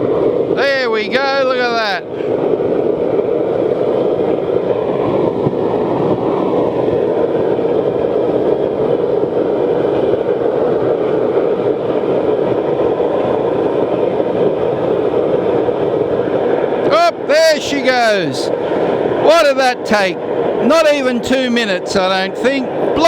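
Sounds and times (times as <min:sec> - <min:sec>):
oil burner rushing roar: 0:00.0 - 0:23.0.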